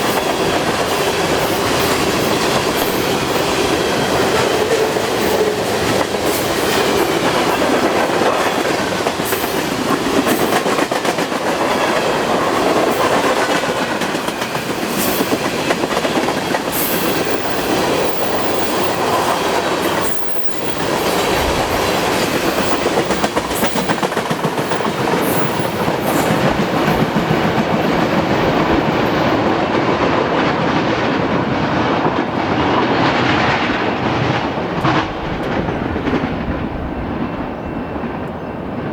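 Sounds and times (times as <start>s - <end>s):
freight train wheels clattering: 0.0s - 38.9s.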